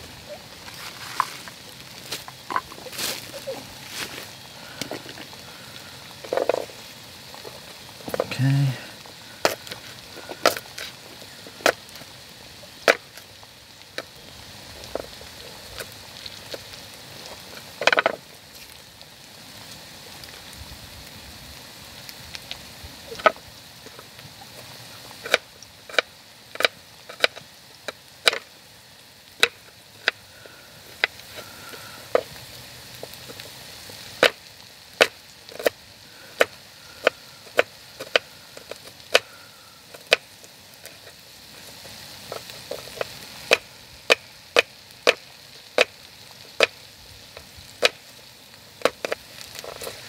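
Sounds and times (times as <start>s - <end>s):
onion sizzling in a pan: 0.0s - 50.0s.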